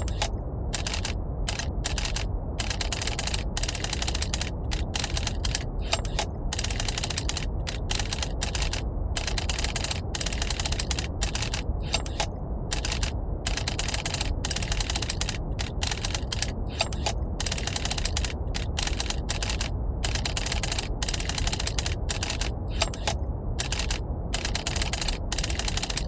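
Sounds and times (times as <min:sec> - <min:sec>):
low rumble of brown noise: 0:00.0 - 0:26.0
typewriter keys clacking: 0:00.0 - 0:26.0.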